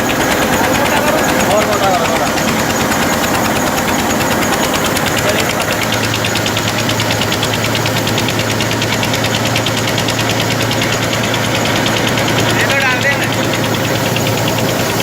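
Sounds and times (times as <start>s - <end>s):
flour mill clattering: 0.0s - 15.0s
steady low hum: 0.0s - 15.0s
tractor engine running under load: 0.0s - 15.0s.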